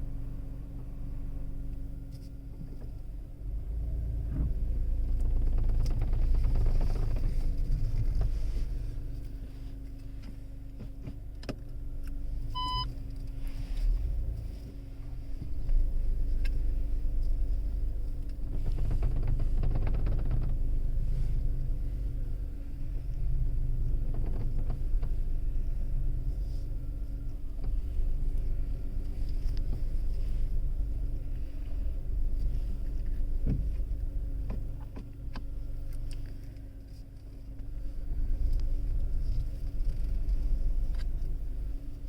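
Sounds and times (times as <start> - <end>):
car engine low hum: 0.0 - 42.0.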